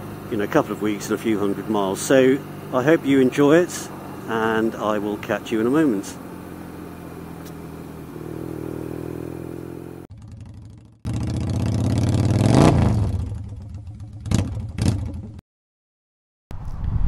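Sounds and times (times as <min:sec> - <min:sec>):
motorcycle engine revving: 0:00.0 - 0:15.4
motorcycle engine running: 0:00.0 - 0:15.4.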